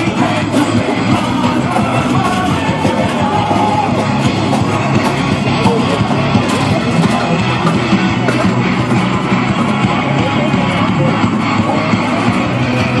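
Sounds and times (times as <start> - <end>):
rock music over loudspeakers: 0.0 - 13.0.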